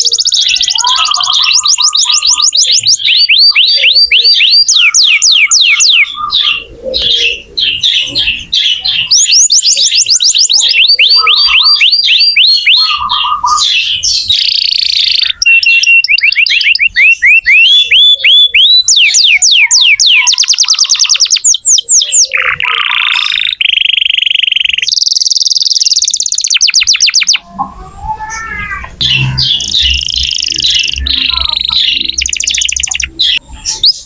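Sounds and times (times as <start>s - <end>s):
canary singing trills: 0.0s - 34.0s.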